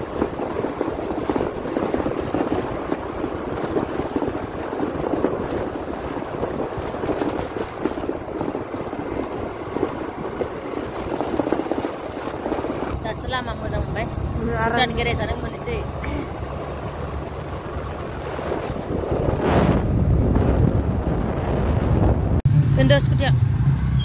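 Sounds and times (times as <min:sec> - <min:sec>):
scooter running and tyre noise: 0:00.0 - 0:24.0
wind buffeting microphone: 0:00.0 - 0:24.0.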